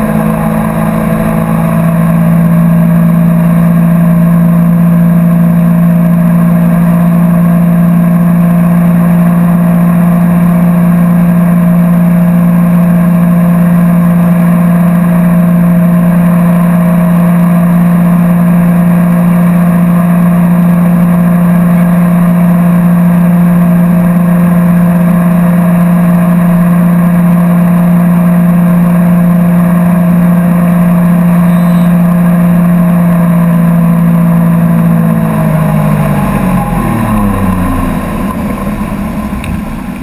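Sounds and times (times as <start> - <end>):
boat engine running: 0.0 - 40.0.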